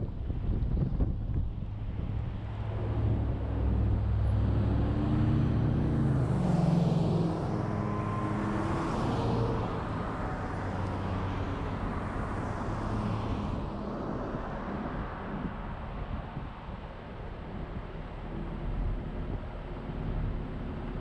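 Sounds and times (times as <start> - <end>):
cars passing by: 0.7 - 21.0.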